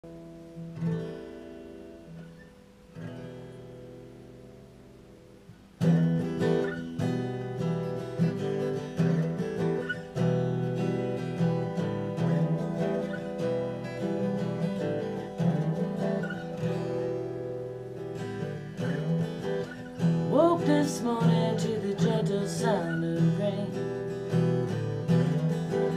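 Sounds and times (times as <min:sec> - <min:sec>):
acoustic guitar strumming: 0:00.0 - 0:25.9.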